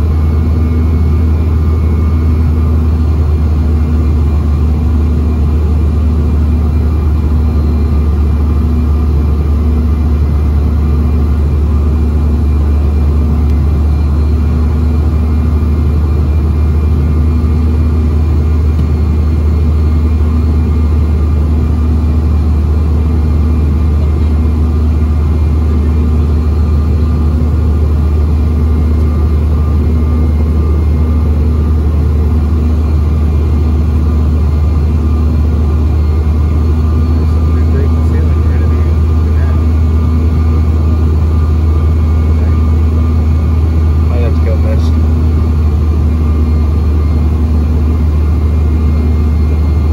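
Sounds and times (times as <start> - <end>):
jet engine drone in cabin: 0.0 - 49.9.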